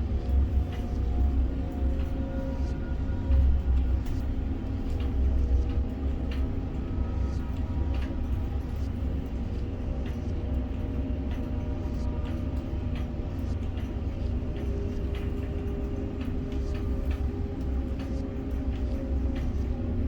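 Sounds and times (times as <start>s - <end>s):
crane machinery rumble and hum: 0.0s - 20.0s.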